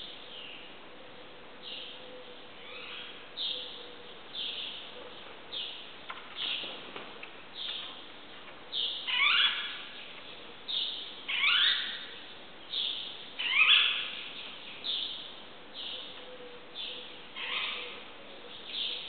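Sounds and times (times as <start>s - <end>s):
birds singing: 0.0s - 19.0s.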